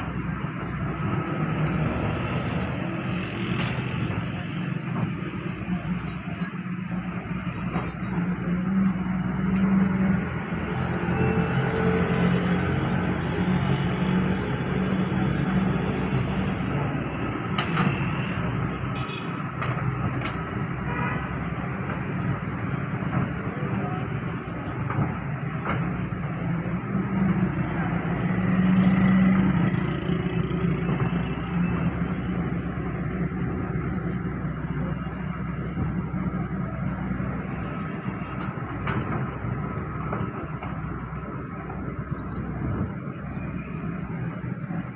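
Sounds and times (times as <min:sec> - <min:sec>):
heavy diesel machinery running: 0:00.0 - 0:44.9.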